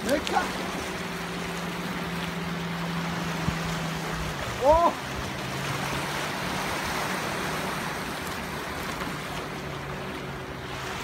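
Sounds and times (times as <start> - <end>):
waves washing: 0.0 - 11.0.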